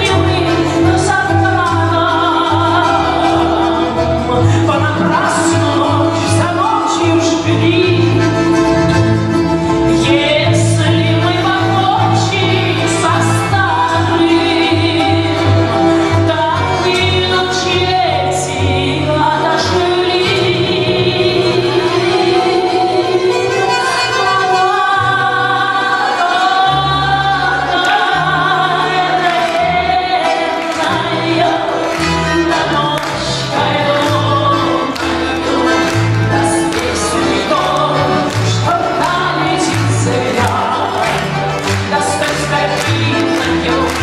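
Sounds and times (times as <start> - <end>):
plucked bass line: 0.0 - 25.9, 26.7 - 44.0
balalaikas strumming: 0.0 - 44.0
folk ensemble playing: 0.0 - 44.0
woman singing with vibrato: 0.0 - 44.0.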